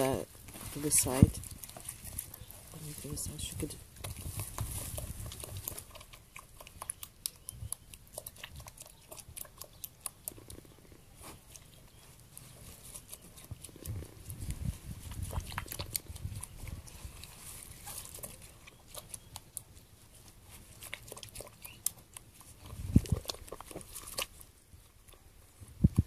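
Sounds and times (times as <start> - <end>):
goat crunching and chewing: 0.0 - 26.0.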